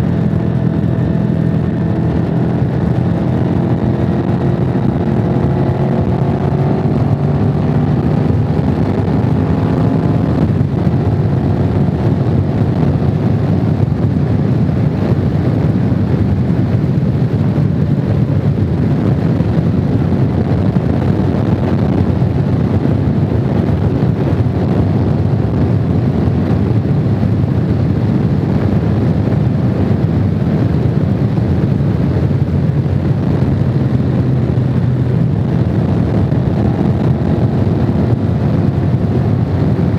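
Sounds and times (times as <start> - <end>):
motorcycle engine at road speed: 0.0 - 39.9
wind rush: 0.0 - 39.9.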